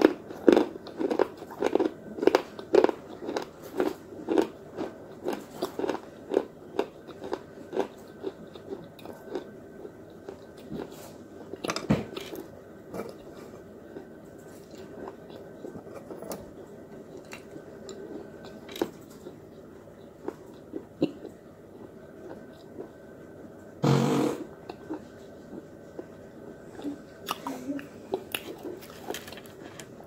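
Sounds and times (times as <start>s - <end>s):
crunching and chewing clay: 0.0s - 12.4s, 13.1s - 23.0s, 24.6s - 30.0s.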